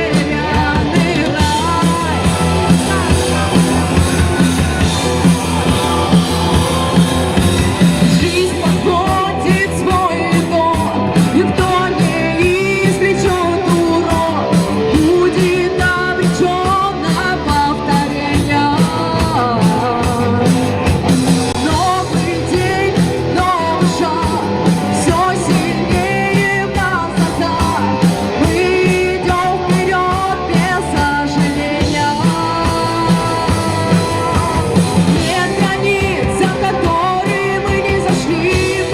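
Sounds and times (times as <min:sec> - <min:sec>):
bass guitar: 0:00.0 - 0:38.9
electric guitar: 0:00.0 - 0:38.9
person singing: 0:00.0 - 0:38.9
steady drum beat: 0:00.0 - 0:38.9.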